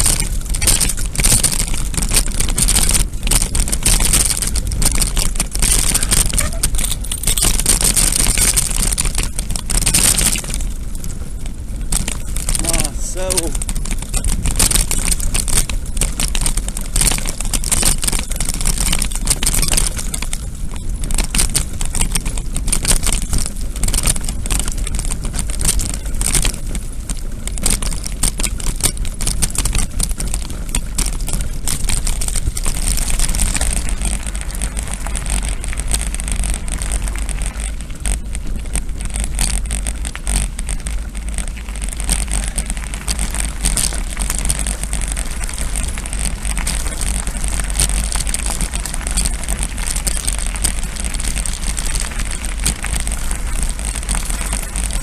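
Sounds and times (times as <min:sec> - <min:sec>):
bike tyres crunching on gravel: 0:00.0 - 0:55.0.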